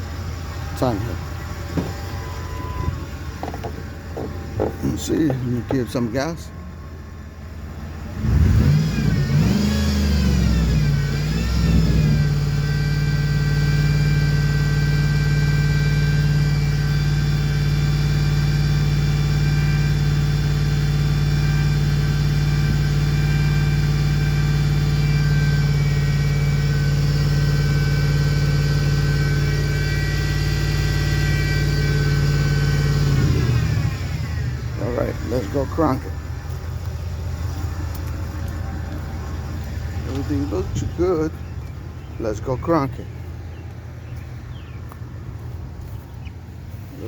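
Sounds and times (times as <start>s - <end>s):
car engine revving: 0.0s - 45.6s.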